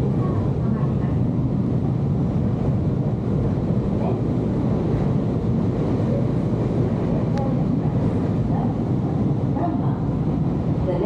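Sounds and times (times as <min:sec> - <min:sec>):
train interior noise: 0:00.0 - 0:11.0.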